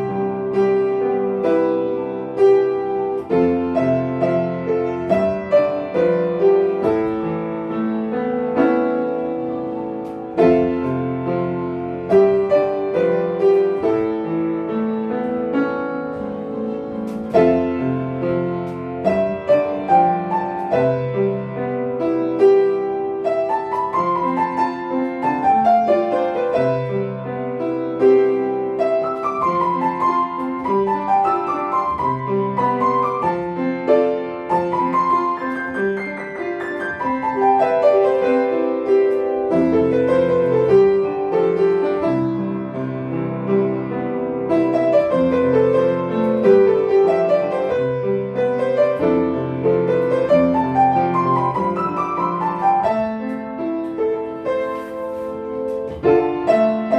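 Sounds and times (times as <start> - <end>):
piano melody: 0.0 - 56.9.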